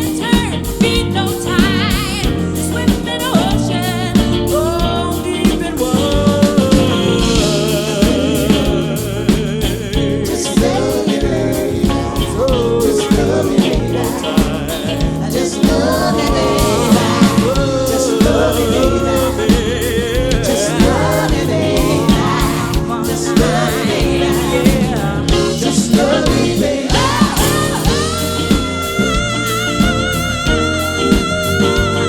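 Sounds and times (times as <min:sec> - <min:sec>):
bass: 0:00.0 - 0:32.0
drums: 0:00.0 - 0:32.0
woman singing vocal runs: 0:00.0 - 0:32.0.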